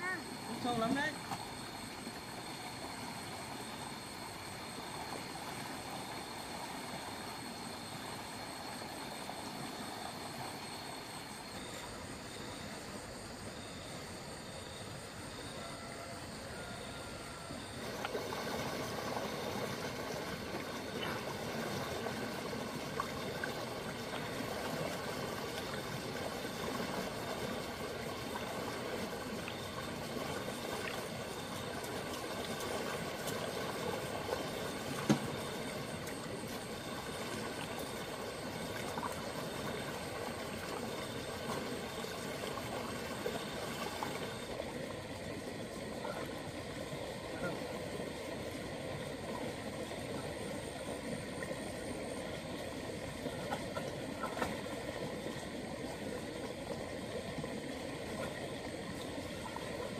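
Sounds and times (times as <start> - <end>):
water rushing in a stream: 0.0 - 59.9.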